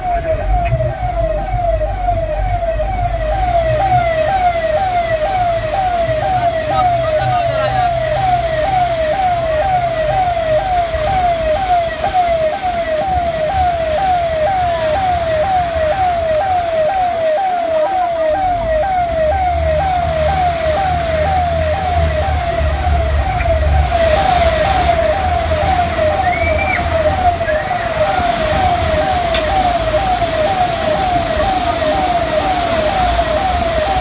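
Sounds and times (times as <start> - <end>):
electronic siren wailing: 0.0 - 34.0
vehicle engine rumble: 0.0 - 34.0.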